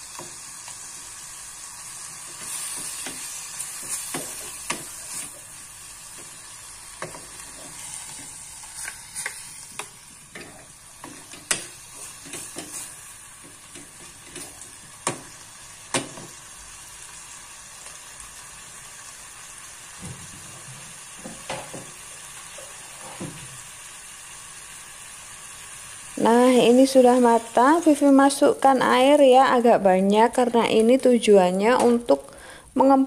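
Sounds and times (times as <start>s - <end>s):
beef sizzling in a saucepan: 0.0s - 33.0s.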